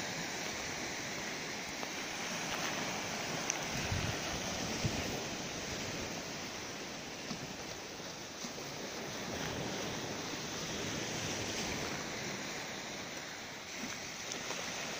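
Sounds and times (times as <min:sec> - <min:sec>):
sea waves washing on shore: 0:00.0 - 0:14.9.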